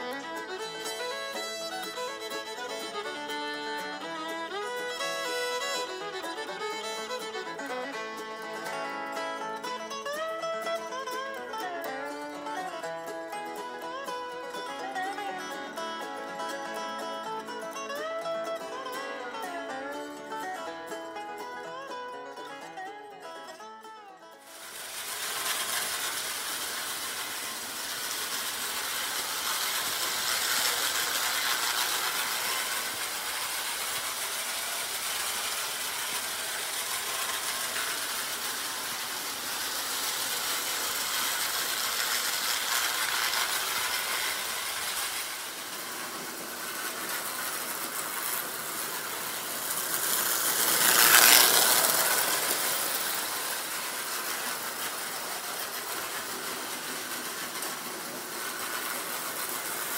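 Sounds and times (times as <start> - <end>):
toy train wheels and motor clatter: 0.0 - 59.9.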